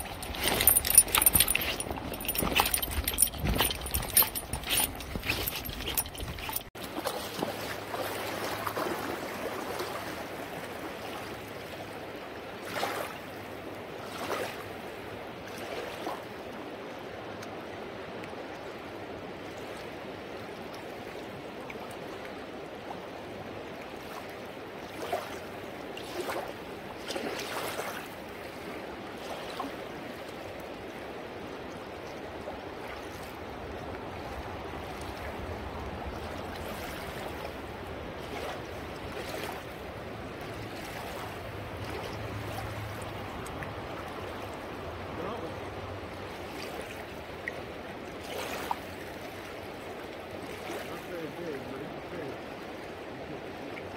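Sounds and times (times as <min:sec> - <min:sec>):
river rushing: 0:00.0 - 0:20.4, 0:22.0 - 0:53.9.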